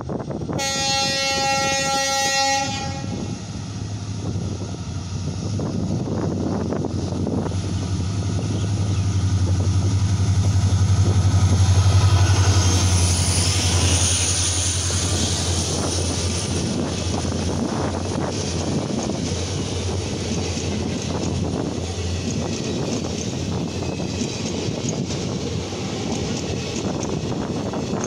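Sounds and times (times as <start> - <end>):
diesel locomotive engine running hard: 0.0 - 28.0
train wheels clicking over rail joints: 4.4 - 28.0.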